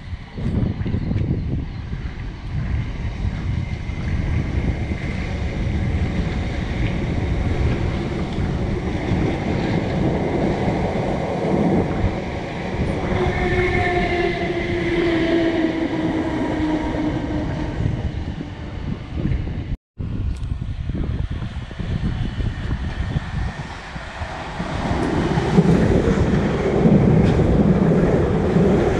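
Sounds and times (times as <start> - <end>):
train wheels rumbling on track: 0.0 - 19.8, 20.4 - 28.9.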